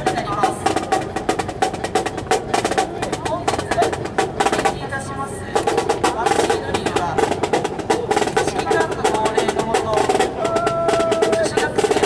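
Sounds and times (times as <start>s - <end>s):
snare drums: 0.0s - 4.9s, 5.5s - 12.0s
marching band music: 0.0s - 12.0s.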